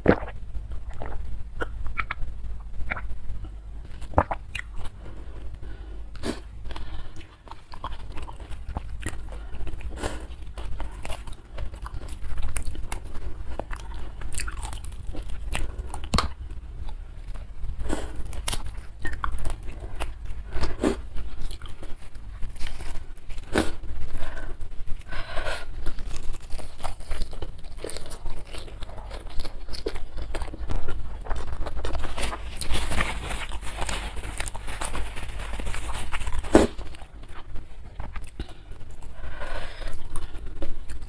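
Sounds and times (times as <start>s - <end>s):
crunchy chewing: 3.9s - 41.0s.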